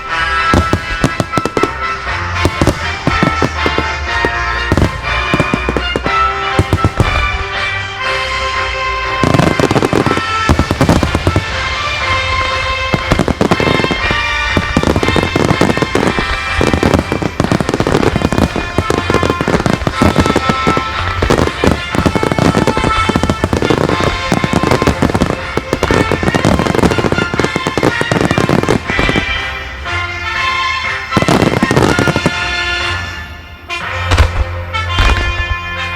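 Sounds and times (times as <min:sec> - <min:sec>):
firework shells bursting: 0:00.0 - 0:08.4, 0:09.2 - 0:33.1
loud music with melody: 0:00.0 - 0:35.9.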